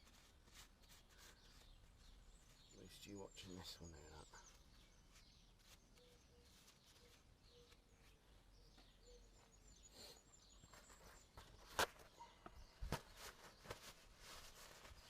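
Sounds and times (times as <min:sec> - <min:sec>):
faint birdsong chirping: 0:00.0 - 0:15.0.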